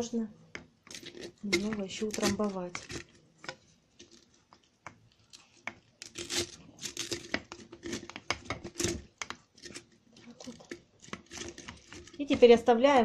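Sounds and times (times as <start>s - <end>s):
vegetables crunching in a jar: 0.9s - 4.4s, 5.3s - 12.7s.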